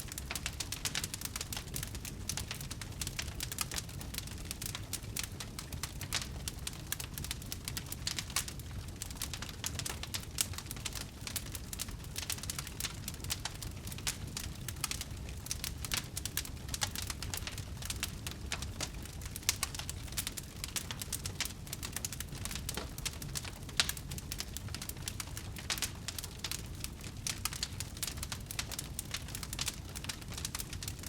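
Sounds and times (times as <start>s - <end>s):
fire crackling in a fireplace: 0.0s - 31.0s.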